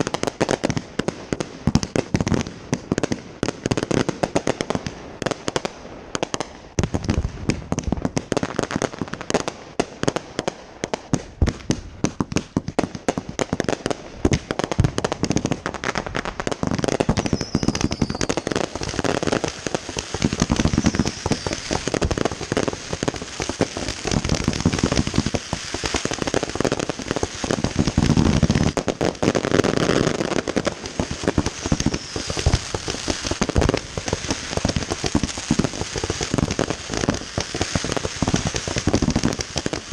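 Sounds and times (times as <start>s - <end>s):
fireworks reports and crackling: 0.0s - 39.9s.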